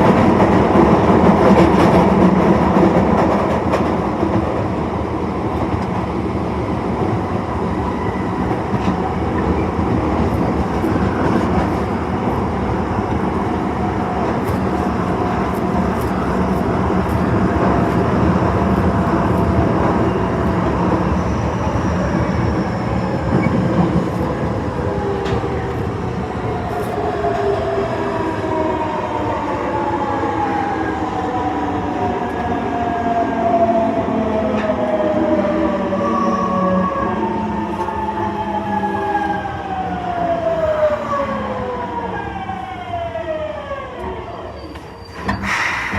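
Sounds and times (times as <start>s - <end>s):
train wheels rumbling on rail: 0.0s - 43.4s, 44.0s - 45.9s.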